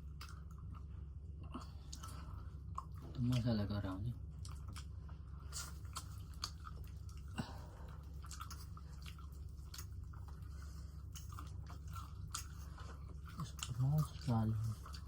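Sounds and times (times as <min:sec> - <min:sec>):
chewing crisp fried food: 0:00.0 - 0:15.0
steady low hum: 0:00.0 - 0:15.0.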